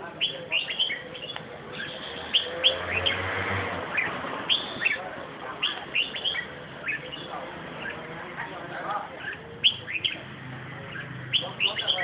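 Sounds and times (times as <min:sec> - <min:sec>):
bird chirping: 0:00.2 - 0:03.3, 0:03.9 - 0:08.4, 0:09.0 - 0:12.0.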